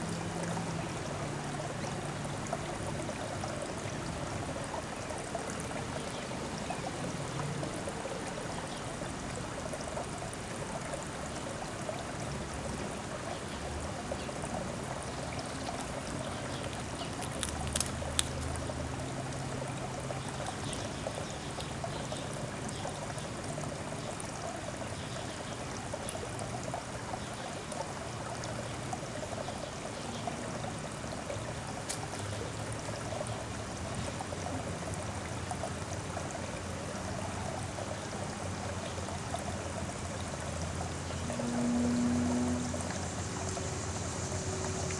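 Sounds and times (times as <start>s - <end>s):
running water trickling: 0.0s - 44.9s.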